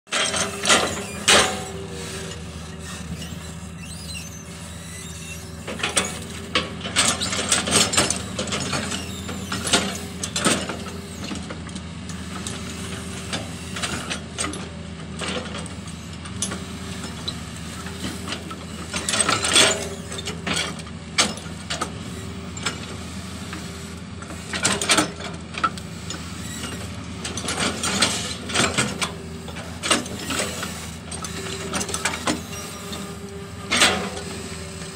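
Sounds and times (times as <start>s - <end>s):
excavator diesel engine running: 0.1s - 34.9s
metallic clanking and squeaking: 0.1s - 34.9s.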